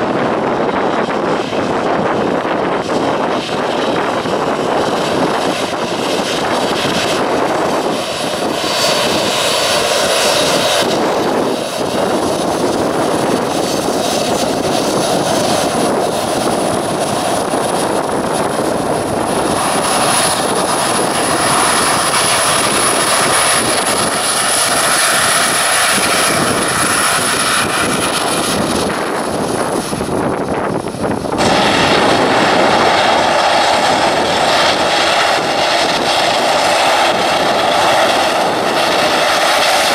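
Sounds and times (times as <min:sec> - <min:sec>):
jet engines whining: 0:00.0 - 0:39.9
turboprop engines and propellers: 0:00.0 - 0:39.9.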